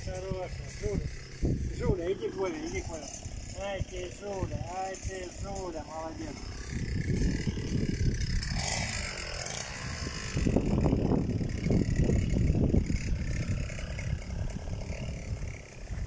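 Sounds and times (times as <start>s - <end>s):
string trimmer cutting grass: 0.0s - 16.0s.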